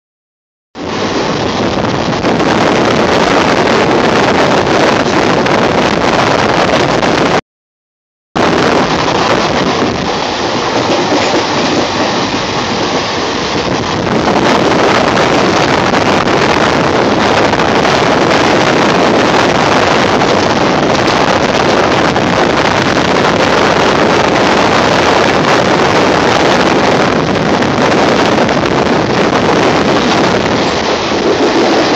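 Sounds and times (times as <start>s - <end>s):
moving passenger train: 0.8s - 7.4s, 8.4s - 31.9s
wind buffeting microphone: 0.8s - 7.4s, 8.4s - 31.9s.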